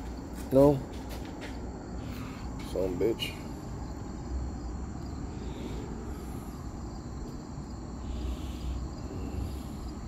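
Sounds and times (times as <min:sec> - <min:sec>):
insect chirring: 0:01.6 - 0:10.0.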